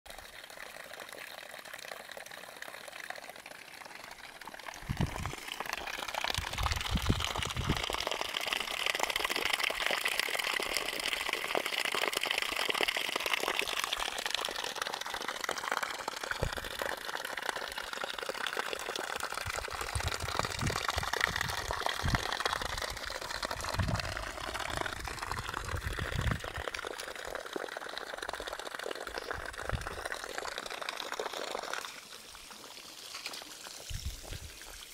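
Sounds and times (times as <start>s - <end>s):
water splashing into troughs: 0.1s - 34.9s.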